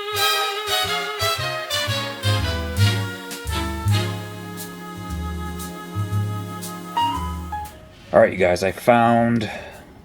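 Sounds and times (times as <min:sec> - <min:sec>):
upbeat swing instrumental music: 0:00.0 - 0:08.1.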